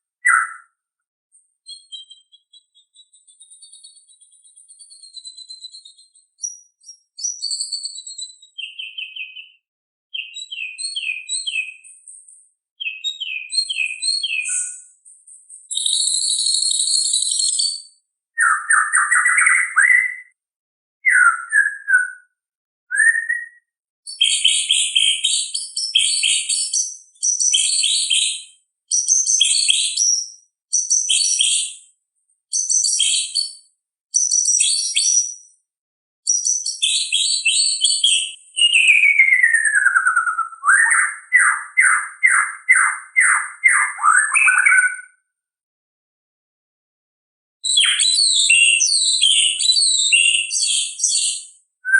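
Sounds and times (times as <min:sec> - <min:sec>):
bird singing high whistles: 0:00.2 - 0:00.7, 0:01.6 - 0:09.6, 0:10.2 - 0:11.9, 0:12.8 - 0:15.0, 0:15.6 - 0:20.4, 0:21.0 - 0:22.3, 0:22.9 - 0:31.8, 0:32.5 - 0:35.4, 0:36.3 - 0:45.1, 0:47.6 - 0:51.9.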